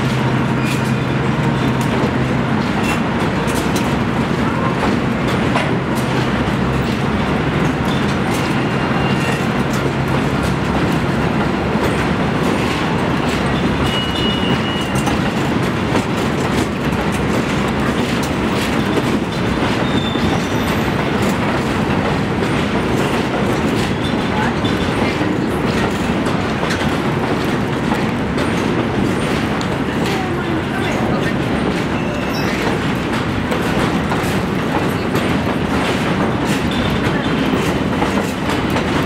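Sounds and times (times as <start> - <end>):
clicks over rail joints: 0.0 - 39.0
train wheels rumbling on rail: 0.0 - 39.0.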